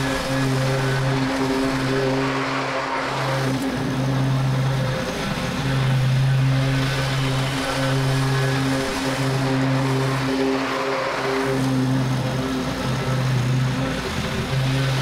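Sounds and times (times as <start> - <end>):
lawn mower engine cutting grass: 0.0 - 15.0.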